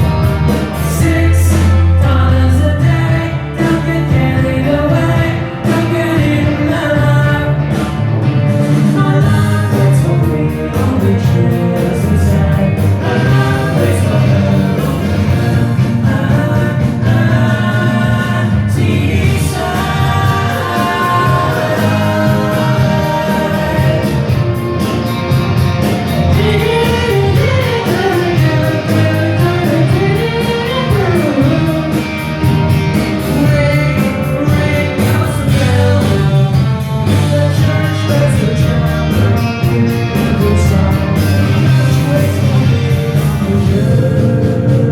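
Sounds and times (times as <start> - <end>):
harmony vocals: 0.0 - 44.9
live rock band playing: 0.0 - 44.9.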